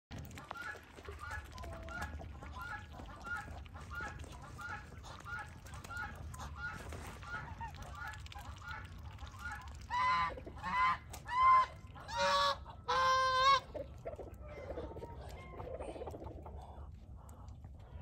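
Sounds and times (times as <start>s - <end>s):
goose calling and honking: 0.4s - 16.0s.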